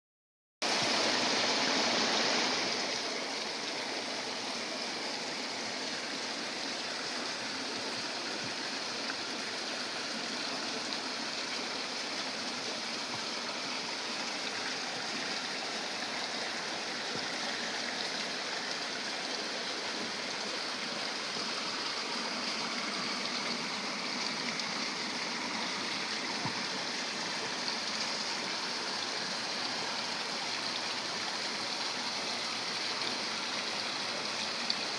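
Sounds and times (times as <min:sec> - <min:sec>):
flowing water: 0:00.6 - 0:34.9.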